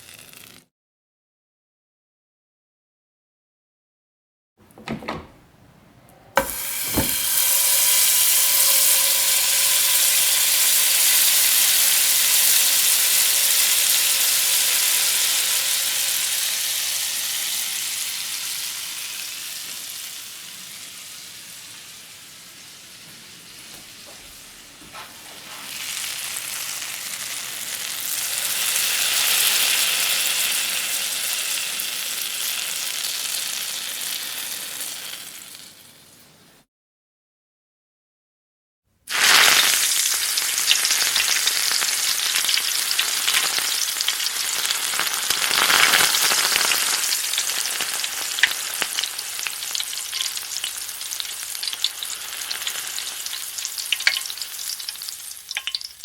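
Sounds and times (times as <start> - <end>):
food sizzling in hot oil: 0.0 - 0.7, 6.4 - 36.4, 39.1 - 56.0.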